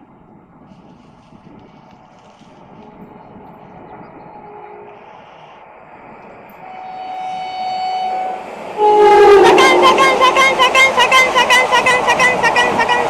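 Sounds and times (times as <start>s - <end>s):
passenger train rolling: 0.0s - 13.0s.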